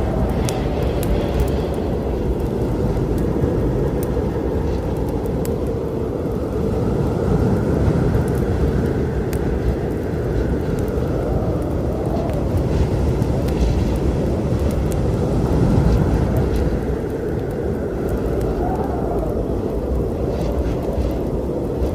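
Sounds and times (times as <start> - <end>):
low storm rumble: 0.0 - 21.9
wood fire crackling: 0.0 - 21.9.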